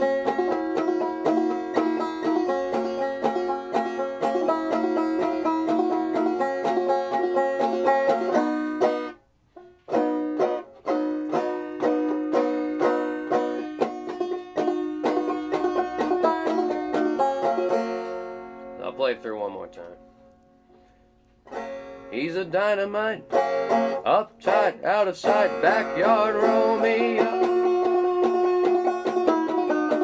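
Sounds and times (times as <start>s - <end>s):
banjo picking: 0.0s - 30.0s.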